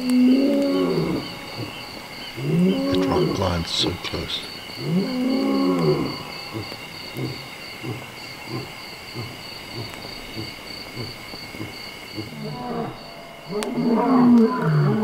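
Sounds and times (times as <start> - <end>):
lion roaring: 0.0 - 3.5, 4.8 - 15.0
insects chirring: 0.0 - 15.0
lion grunting: 0.2 - 15.0.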